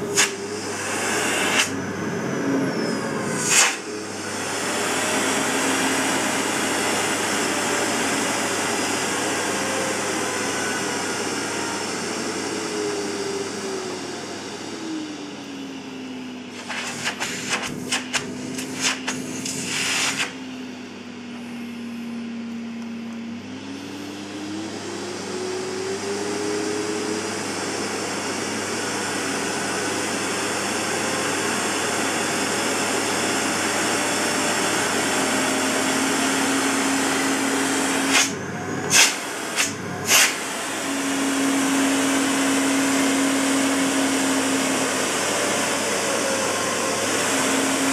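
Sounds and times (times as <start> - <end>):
vacuum cleaner motor running: 0.0 - 47.9.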